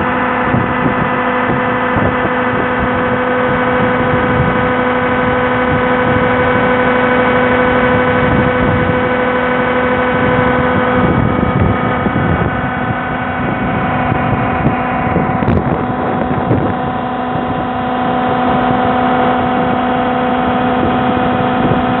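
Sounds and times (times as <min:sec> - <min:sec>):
low rumbling: 0:00.0 - 0:22.0
slurry mixer drone: 0:00.0 - 0:22.0.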